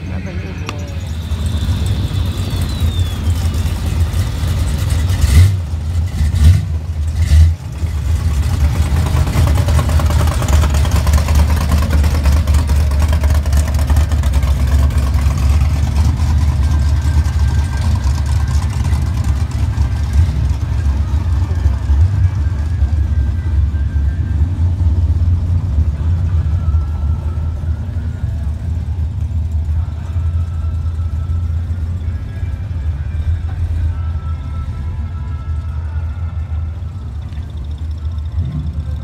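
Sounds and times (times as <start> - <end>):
car engines rumbling: 0.0 - 39.0.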